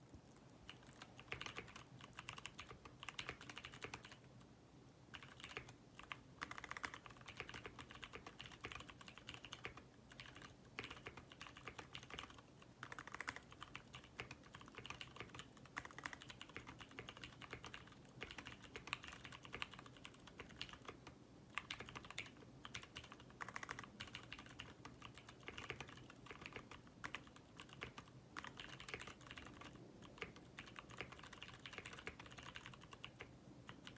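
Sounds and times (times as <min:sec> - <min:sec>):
faint steady hum: 0:00.0 - 0:33.9
fast mechanical keyboard typing: 0:00.6 - 0:04.2, 0:05.1 - 0:33.9.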